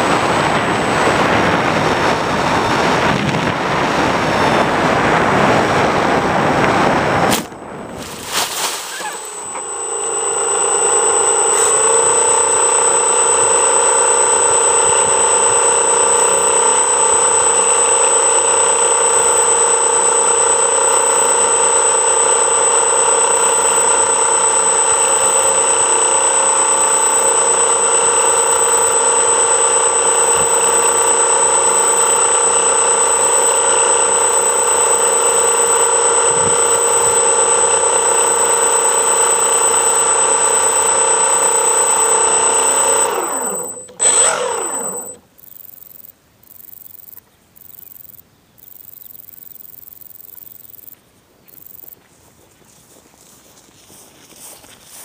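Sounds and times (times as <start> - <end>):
thin high whine: 0.0 - 52.0
electronic hum and hiss: 0.0 - 55.0.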